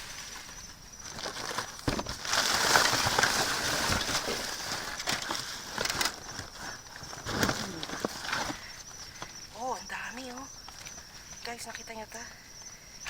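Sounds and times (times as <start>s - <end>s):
trash bags rustling and crinkling: 0.0s - 11.4s.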